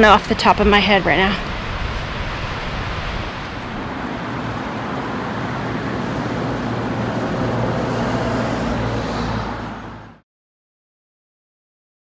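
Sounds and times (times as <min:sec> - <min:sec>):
road traffic rushing: 0:00.0 - 0:10.2
vehicle engine hum: 0:00.0 - 0:10.2.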